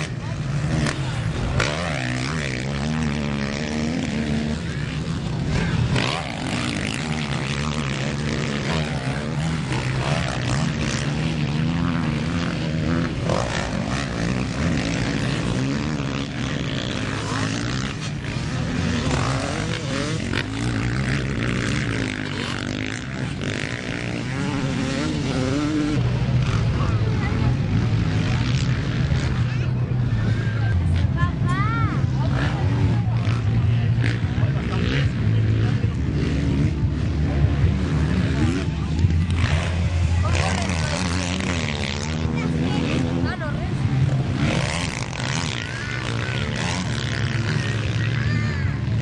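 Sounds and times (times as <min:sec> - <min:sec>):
motocross engines revving: 0:00.0 - 0:49.0.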